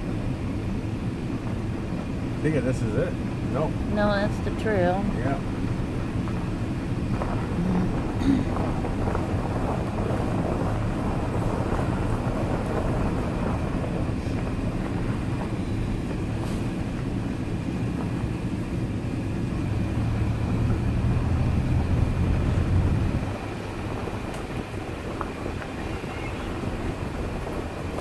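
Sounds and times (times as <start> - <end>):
truck engine hum: 0.0 - 28.0
tyres on gravel road: 0.0 - 28.0.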